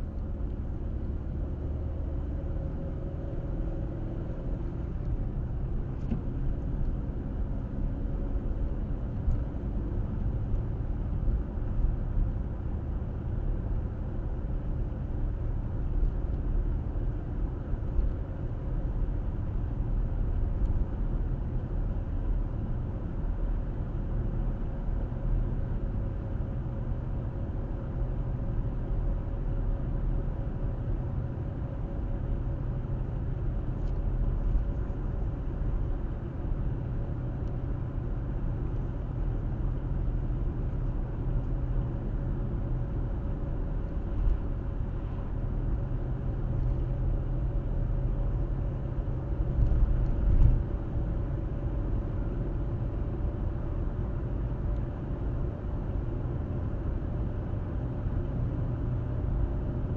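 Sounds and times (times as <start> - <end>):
tyres and engine rumble: 0.0 - 59.9.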